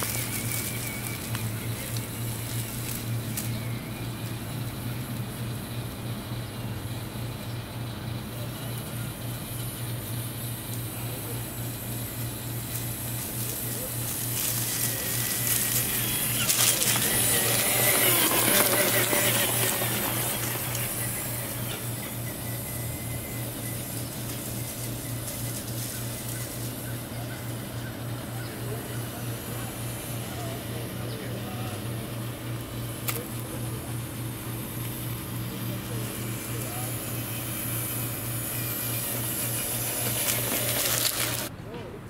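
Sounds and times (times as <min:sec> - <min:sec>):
rc truck motor driving past: 0:00.0 - 0:41.5.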